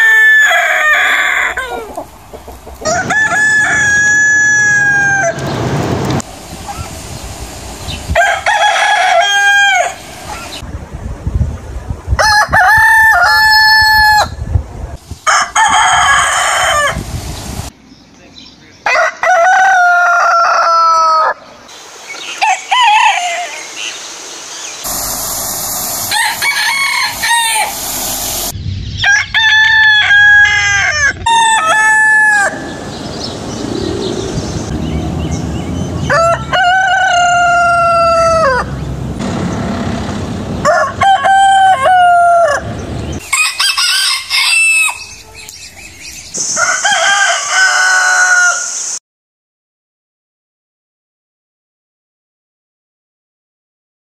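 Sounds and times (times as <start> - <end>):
roosters crowing: 0.0 - 7.0, 7.8 - 10.6, 12.2 - 14.4, 15.2 - 17.2, 18.8 - 24.0, 24.8 - 49.0.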